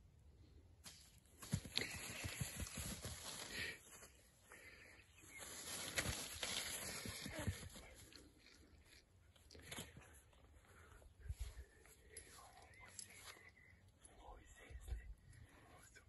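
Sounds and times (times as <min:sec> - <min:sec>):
long grass rustling: 0:00.8 - 0:13.7.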